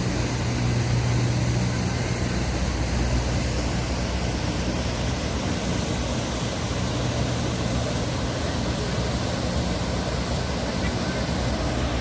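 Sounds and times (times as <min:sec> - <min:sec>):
waterfall rushing with low rumble: 0:00.0 - 0:12.0.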